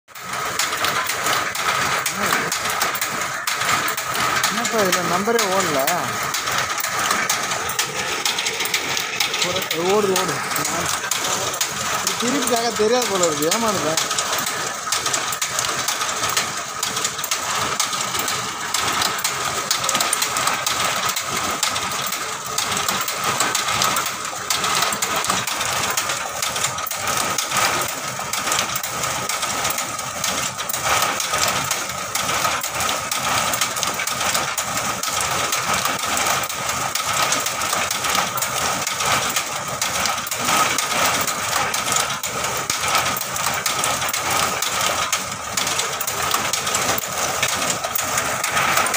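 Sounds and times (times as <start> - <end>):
shelling machine whining: 0.1 - 48.9.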